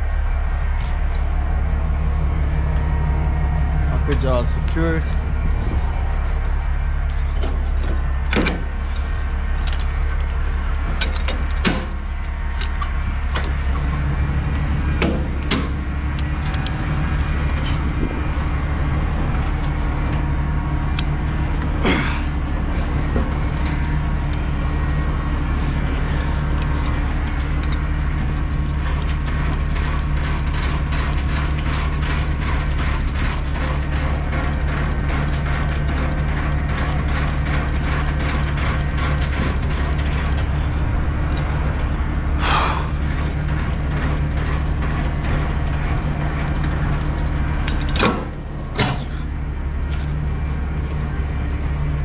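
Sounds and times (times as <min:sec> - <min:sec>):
diesel truck engine idling: 0:00.0 - 0:52.0
metal clanks: 0:07.0 - 0:16.8, 0:17.4 - 0:49.3.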